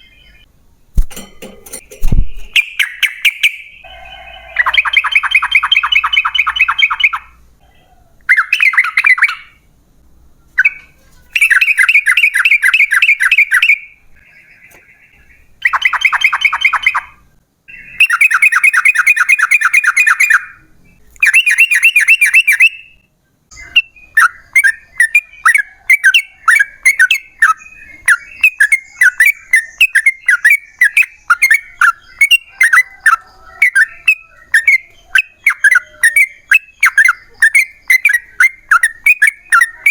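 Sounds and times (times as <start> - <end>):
bulbul singing: 0.0 - 7.4, 8.3 - 9.7, 10.6 - 39.9
bird chirps: 2.1 - 9.7, 10.5 - 39.9.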